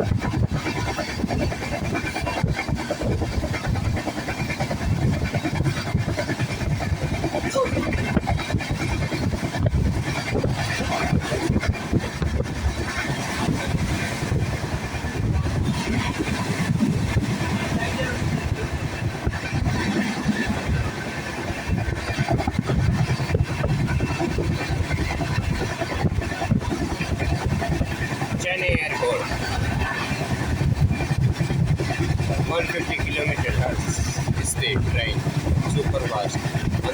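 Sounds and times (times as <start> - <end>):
train rumbling: 0.0 - 36.9.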